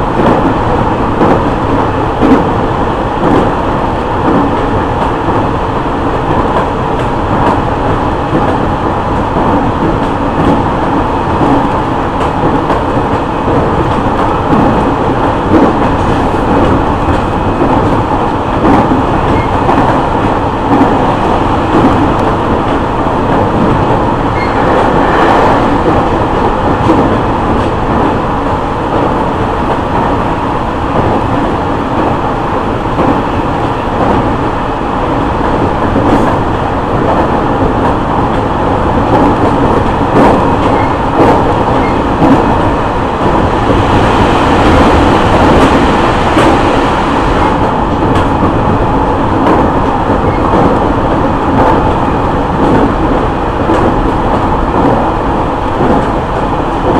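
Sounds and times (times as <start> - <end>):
rail joint clicks: 0.0 - 56.9
wheels rumbling on rail: 0.0 - 56.9.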